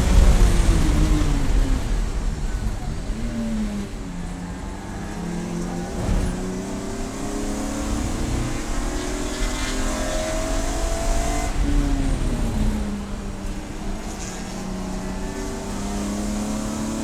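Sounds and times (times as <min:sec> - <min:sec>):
race car engine running: 0:00.0 - 0:17.0.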